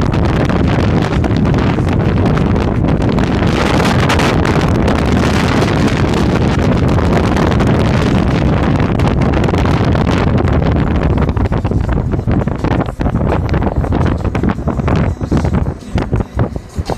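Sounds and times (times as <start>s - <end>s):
car road noise: 0.0s - 16.9s
wind buffeting microphone: 0.0s - 16.9s.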